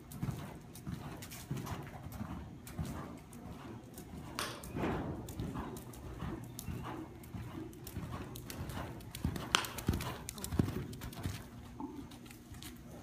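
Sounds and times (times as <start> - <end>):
hoofbeats on sand: 0.0 - 11.5.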